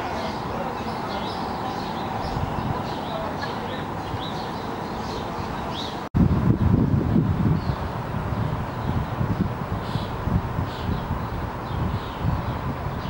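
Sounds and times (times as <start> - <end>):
small birds chirping: 0.0 - 6.1, 7.4 - 13.0
outdoor background hiss: 0.0 - 13.0
wind rumbling on microphone: 0.0 - 13.0.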